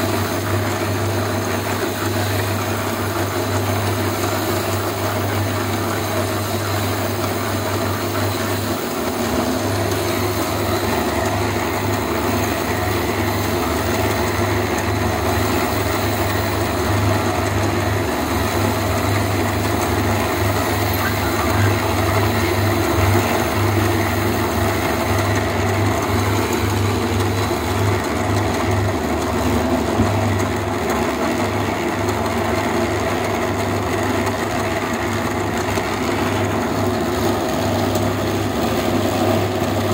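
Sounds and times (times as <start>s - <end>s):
concrete mixer motor hum: 0.0s - 39.9s.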